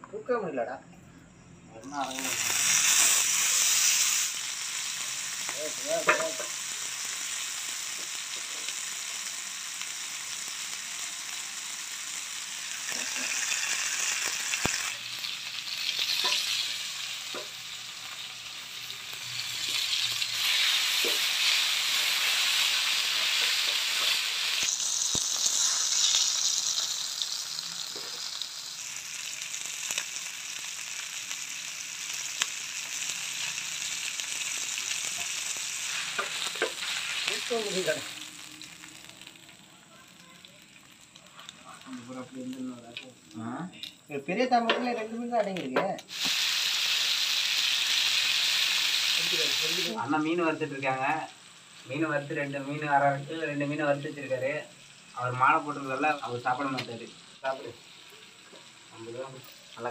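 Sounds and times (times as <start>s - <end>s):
fish sizzling in oil: 1.9s - 59.9s.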